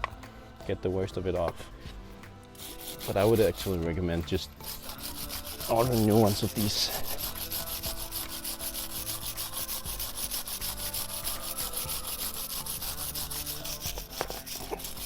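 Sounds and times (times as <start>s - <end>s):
wire brush scrubbing metal: 2.6s - 15.0s.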